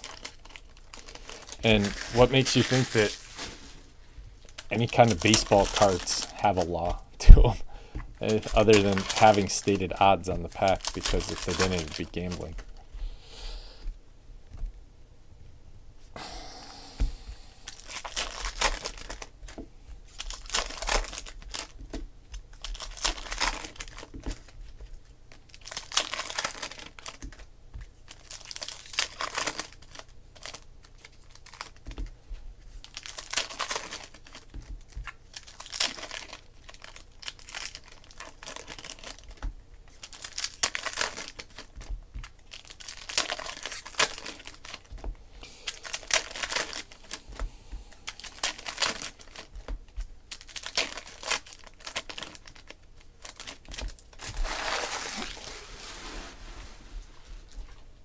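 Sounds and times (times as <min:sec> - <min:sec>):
foil wrappers tearing and crinkling: 0:00.0 - 0:07.4, 0:08.2 - 0:12.6, 0:17.7 - 0:19.3, 0:20.1 - 0:24.6, 0:25.3 - 0:31.9, 0:32.8 - 0:47.3, 0:48.0 - 0:56.9.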